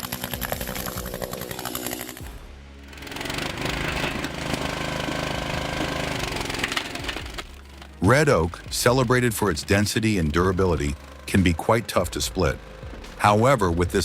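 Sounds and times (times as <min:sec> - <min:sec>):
background music: 0:00.0 - 0:14.0
chainsaw running: 0:00.0 - 0:14.0
machine hum: 0:00.0 - 0:14.0.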